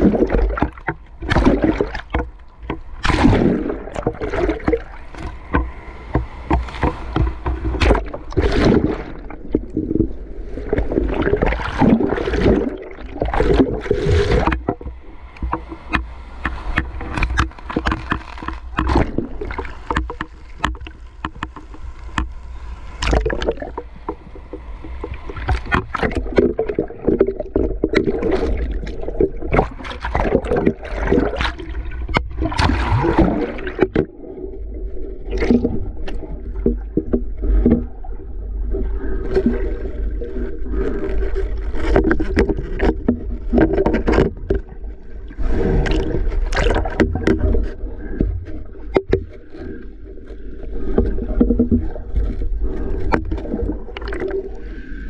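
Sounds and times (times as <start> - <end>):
low underwater rumble: 0.0 - 55.0
water churning and bubbling: 0.0 - 55.0.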